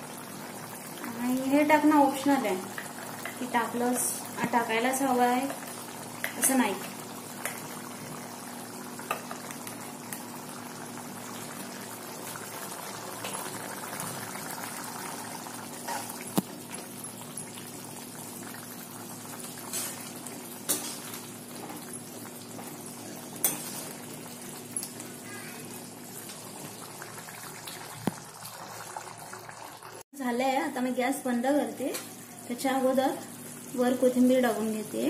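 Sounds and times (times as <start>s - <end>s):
gravy simmering and bubbling: 0.0s - 30.0s.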